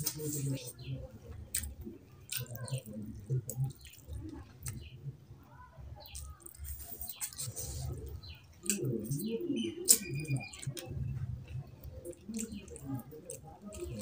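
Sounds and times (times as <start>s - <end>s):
wet chewing and lip-smacking: 0.0s - 4.9s, 6.0s - 14.0s.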